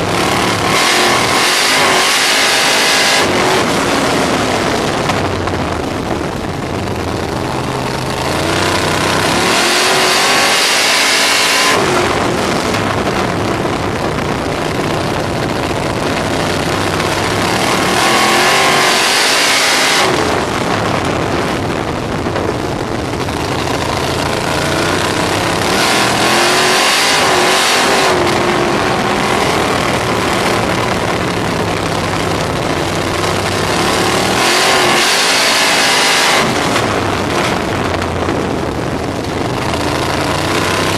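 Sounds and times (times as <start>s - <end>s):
loud rushing noise: 0.0s - 40.9s
race car engine accelerating: 0.0s - 40.9s.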